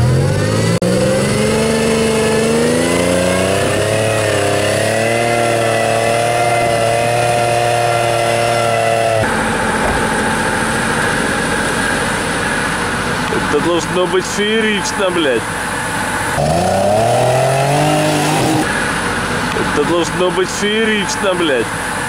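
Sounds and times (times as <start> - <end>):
low steady truck engine: 0.0 - 22.0
truck engine revving: 0.0 - 22.0.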